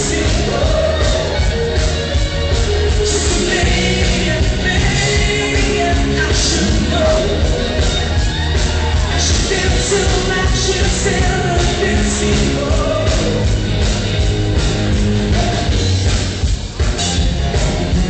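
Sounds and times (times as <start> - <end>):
loud rock music with singing: 0.0 - 18.0.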